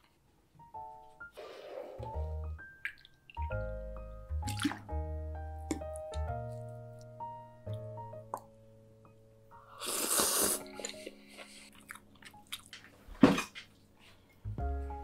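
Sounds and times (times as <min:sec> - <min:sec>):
background music: 0:00.6 - 0:15.0.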